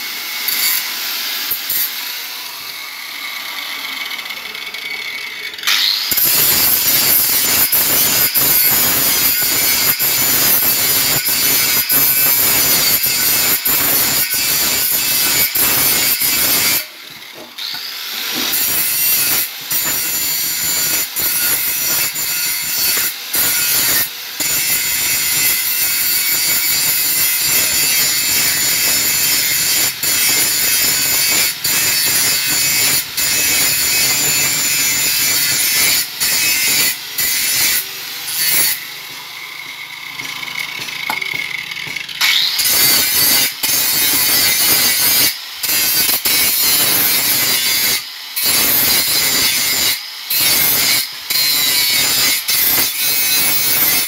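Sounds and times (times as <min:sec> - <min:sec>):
angle grinder cutting steel: 0:00.0 - 0:54.0.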